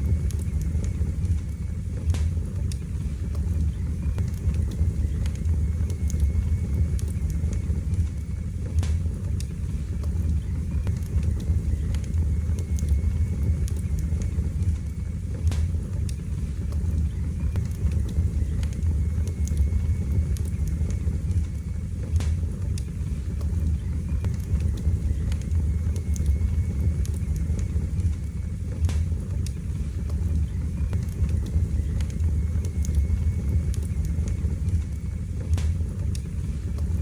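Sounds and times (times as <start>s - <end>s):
fire crackling and popping: 0.0s - 37.0s
low roar of flames: 0.0s - 37.0s.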